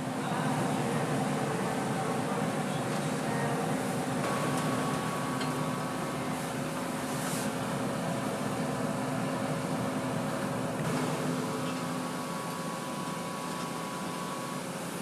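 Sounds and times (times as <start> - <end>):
machine hum and hiss: 0.0 - 15.0.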